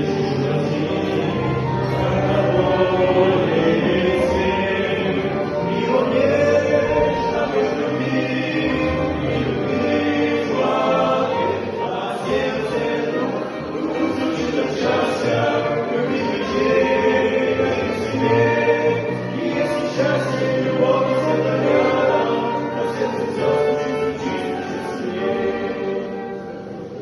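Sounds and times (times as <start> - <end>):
choir singing with music: 0.0 - 27.0.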